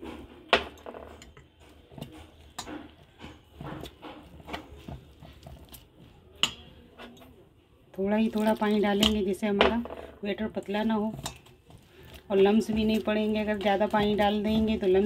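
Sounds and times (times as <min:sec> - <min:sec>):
spoon stirring batter in bowl: 0:00.0 - 0:09.6, 0:10.2 - 0:15.0.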